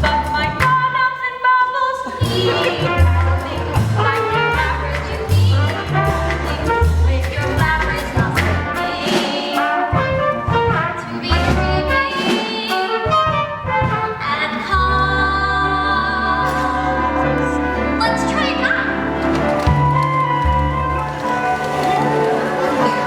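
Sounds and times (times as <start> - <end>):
band accompaniment: 2.1 - 15.7, 16.4 - 23.0.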